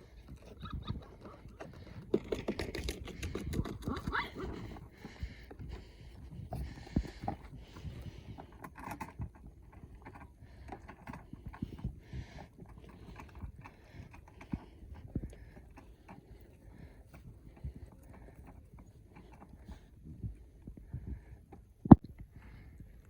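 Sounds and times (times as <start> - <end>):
animals tussling on the ground: 0.0 - 21.3.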